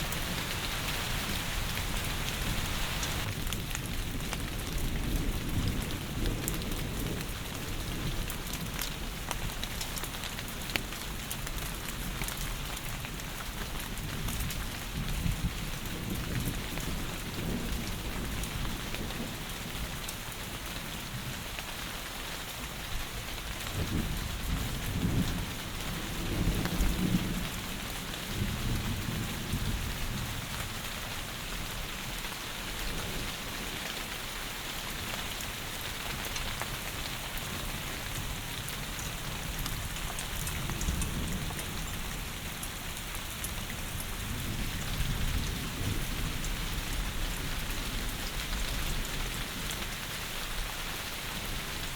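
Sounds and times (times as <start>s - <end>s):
low rumble of thunder: 0.0s - 21.6s, 23.4s - 34.0s, 36.0s - 51.9s
heavy rain falling: 0.0s - 51.9s.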